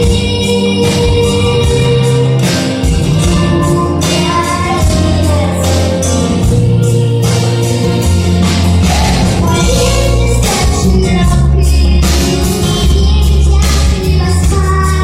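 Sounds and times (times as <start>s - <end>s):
bass and percussion: 0.0s - 15.0s
girl singing pop song: 0.0s - 15.0s.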